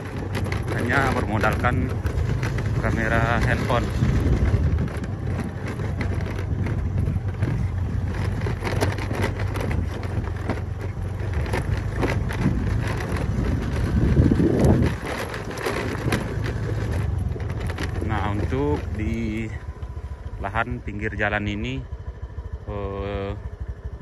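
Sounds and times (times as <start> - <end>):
wind buffeting microphone: 0.0 - 21.1
knocks and rattles: 0.0 - 21.2
motor scooter running: 0.0 - 24.0.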